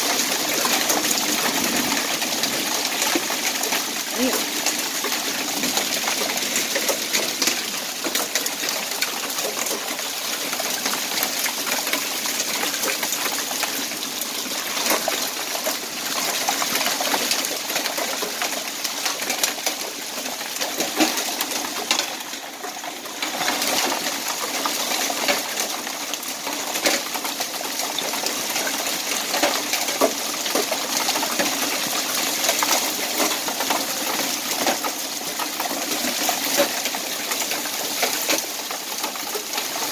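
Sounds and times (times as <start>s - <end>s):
hail striking pavement: 0.0s - 39.9s
rain: 0.0s - 39.9s.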